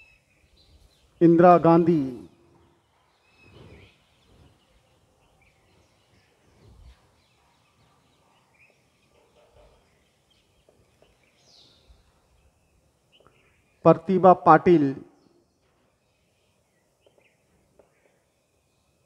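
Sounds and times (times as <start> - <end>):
faint bird chirps: 0.0 - 1.3, 2.0 - 13.9, 15.0 - 19.0.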